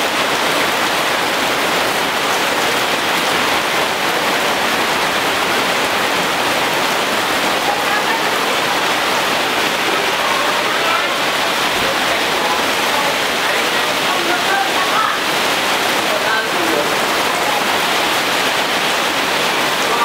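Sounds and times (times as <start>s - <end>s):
heavy rain on trees and roofs: 0.0s - 20.0s.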